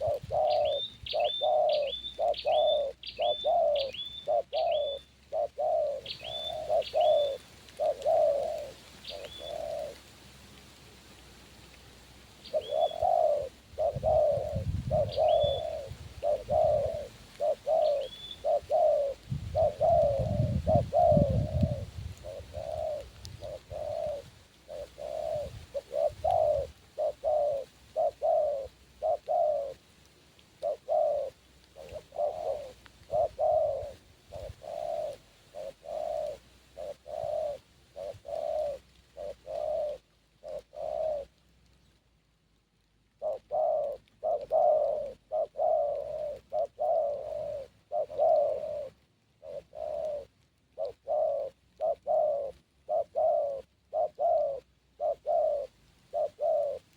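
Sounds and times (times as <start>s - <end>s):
dove cooing: 0.0s - 10.1s, 12.4s - 29.8s, 30.5s - 41.4s, 43.1s - 56.9s.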